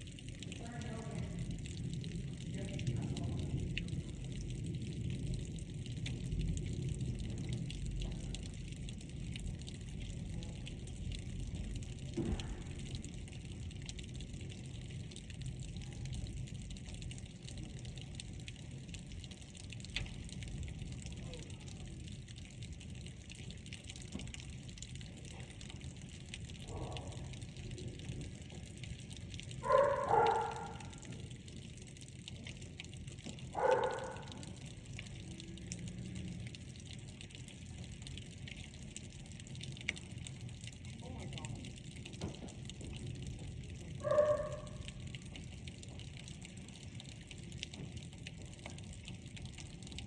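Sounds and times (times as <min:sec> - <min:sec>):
drops ticking on hard surface: 0:00.0 - 0:50.0
rain pouring: 0:00.0 - 0:50.0.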